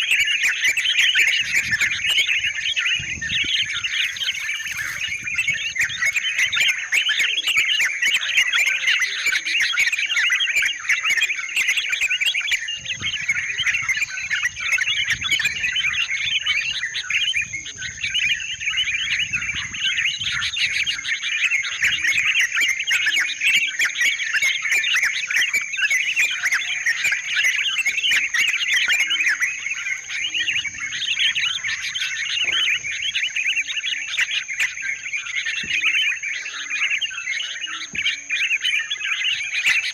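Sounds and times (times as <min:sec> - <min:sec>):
bulbuls chattering chorus: 0:00.0 - 0:39.9.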